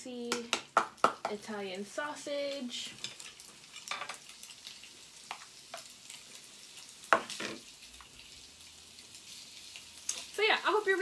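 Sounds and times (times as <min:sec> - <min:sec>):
sausage sizzling in a frying pan: 0:00.0 - 0:11.0.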